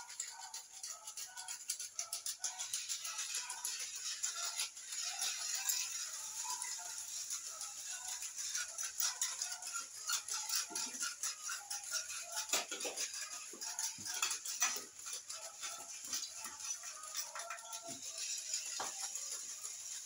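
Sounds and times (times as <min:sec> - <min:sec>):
plastic toy legs clicking: 0:00.0 - 0:20.0.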